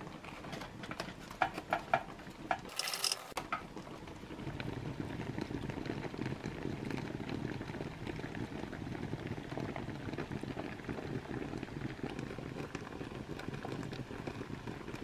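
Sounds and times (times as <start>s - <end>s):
coffee crackling and bubbling: 0.0s - 15.0s
hot water trickling into coffee: 1.7s - 15.0s.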